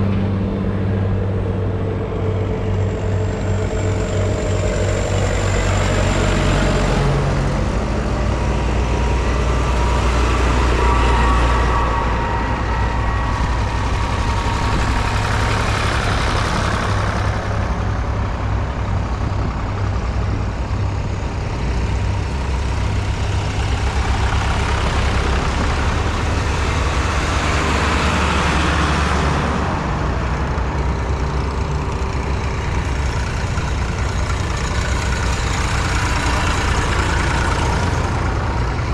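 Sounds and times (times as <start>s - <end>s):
diesel tractor engines running: 0.0s - 38.9s.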